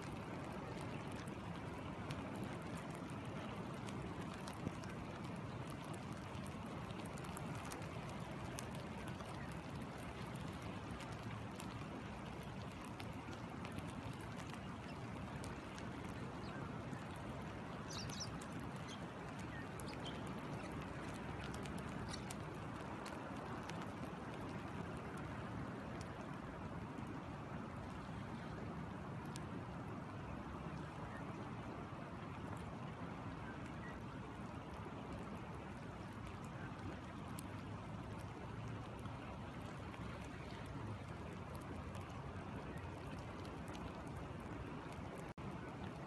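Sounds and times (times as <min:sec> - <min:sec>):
rain falling on water: 0:00.0 - 0:46.0
stream flowing: 0:00.0 - 0:46.0.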